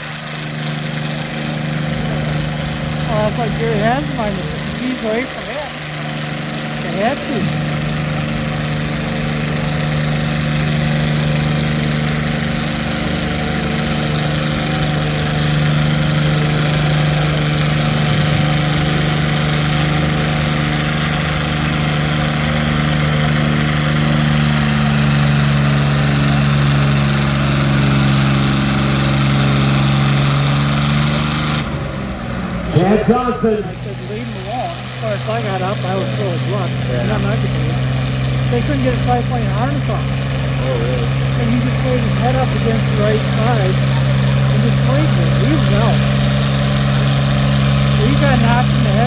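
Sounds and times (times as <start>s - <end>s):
tractor engine under load: 0.0s - 49.0s.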